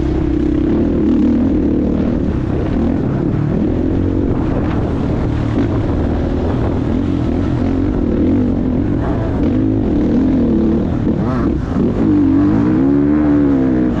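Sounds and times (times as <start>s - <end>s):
motocross bike engine revving: 0.0s - 14.0s.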